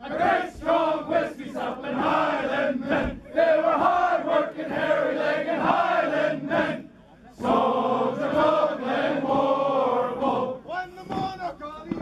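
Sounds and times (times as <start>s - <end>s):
group singing in unison: 0.0s - 10.7s.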